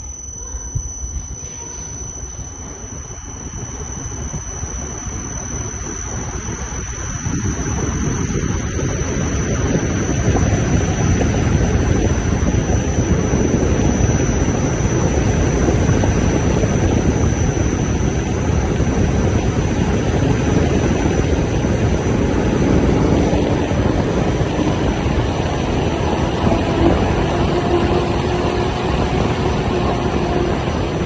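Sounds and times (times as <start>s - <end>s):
strong wind blowing: 2.6s - 31.0s
wind buffeting microphone: 3.9s - 31.0s.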